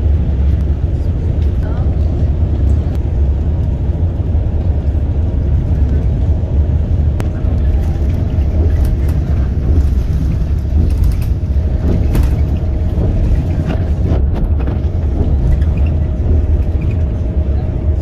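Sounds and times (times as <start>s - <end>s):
vehicle road rumble: 0.0s - 18.0s.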